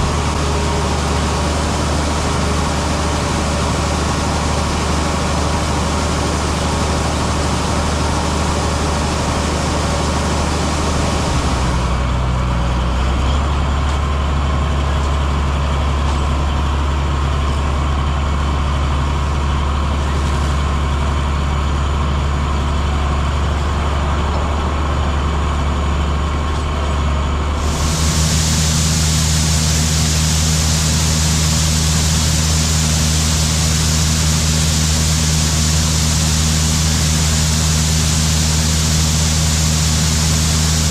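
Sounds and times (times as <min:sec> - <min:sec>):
diesel farm machinery engine drone: 0:00.0 - 0:40.9.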